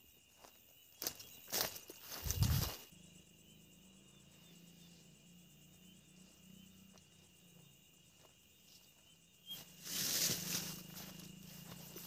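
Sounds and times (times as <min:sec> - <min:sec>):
faint crickets chirping: 0:00.0 - 0:12.0.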